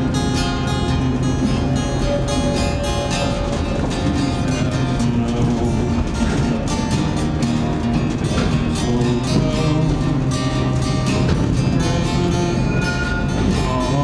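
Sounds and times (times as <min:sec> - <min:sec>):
acoustic guitar strumming slow song: 0:00.0 - 0:14.0.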